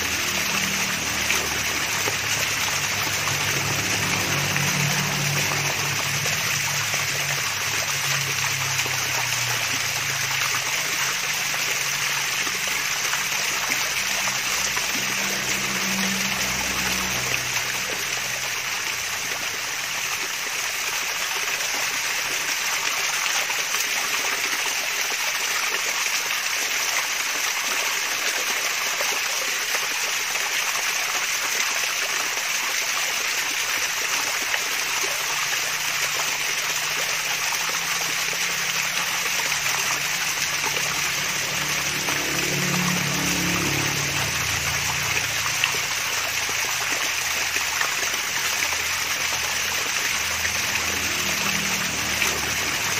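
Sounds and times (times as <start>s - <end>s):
small waterfall splashing: 0.0s - 52.9s.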